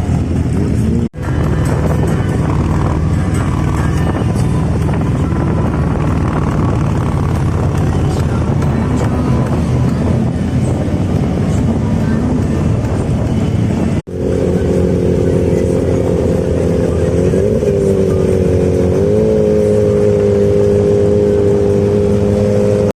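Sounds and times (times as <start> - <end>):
wind rush: 0.0 - 22.9
motorcycle engine cruising: 0.0 - 23.0.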